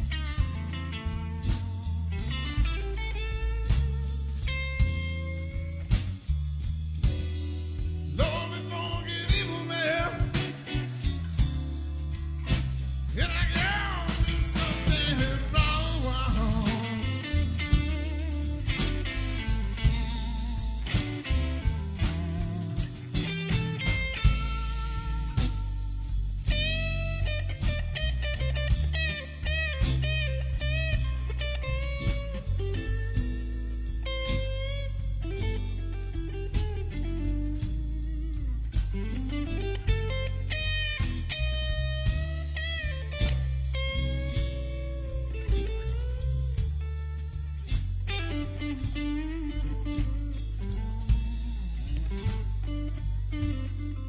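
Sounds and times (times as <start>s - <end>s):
bass: 0.0s - 54.0s
blues band playing: 0.0s - 54.0s
drums: 0.0s - 54.0s
electric guitar bending notes: 0.0s - 54.0s.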